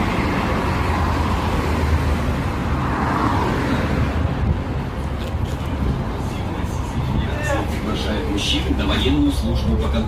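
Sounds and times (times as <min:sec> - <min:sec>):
bus engine humming: 0:00.0 - 0:10.0
road and cabin noise: 0:00.0 - 0:10.0.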